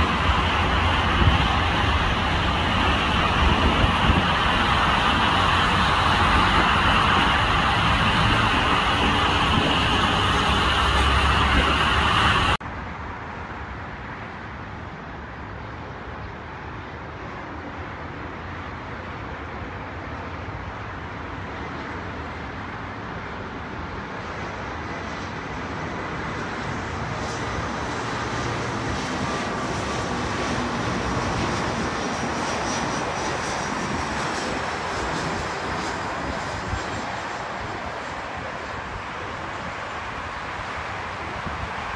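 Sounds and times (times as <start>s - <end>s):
airliner jet engines landing: 0.0s - 41.9s
airliner jet noise on approach: 0.0s - 41.9s
road traffic: 0.0s - 41.9s.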